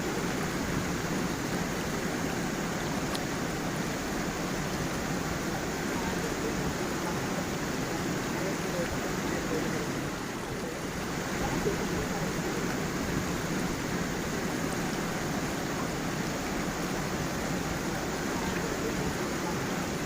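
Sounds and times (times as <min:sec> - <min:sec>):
stream flowing over stones: 0:00.0 - 0:20.0.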